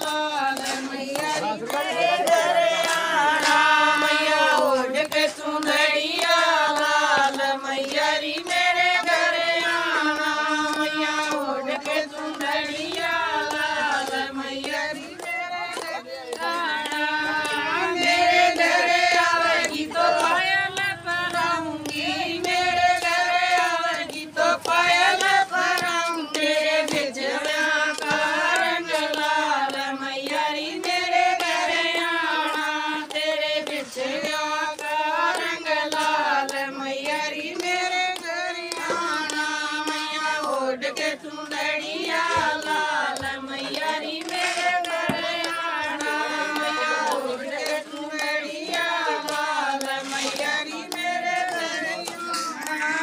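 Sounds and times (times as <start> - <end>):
hand claps: 0.0 - 53.0
women singing devotional song: 0.0 - 53.0.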